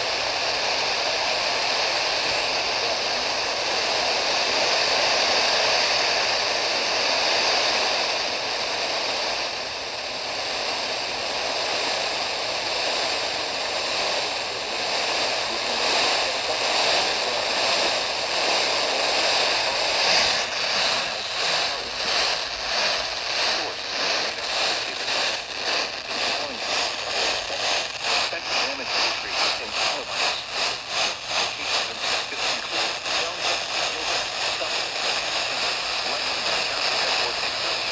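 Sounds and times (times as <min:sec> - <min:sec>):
radio static hiss: 0:00.0 - 0:37.9.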